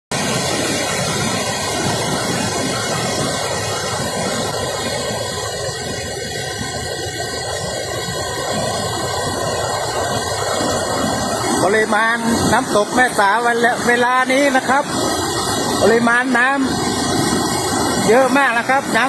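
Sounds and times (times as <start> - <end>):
river water rushing: 0.1 - 19.0.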